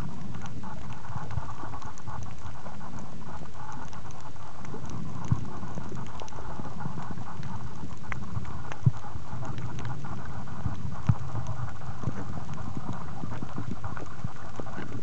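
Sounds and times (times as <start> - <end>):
muffled underwater rush: 0.0 - 15.0
small clicks and crackles: 0.0 - 15.0.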